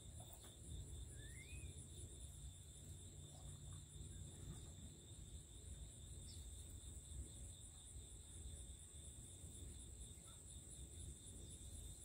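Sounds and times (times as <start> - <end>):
insect chorus trilling: 0.1 - 12.0.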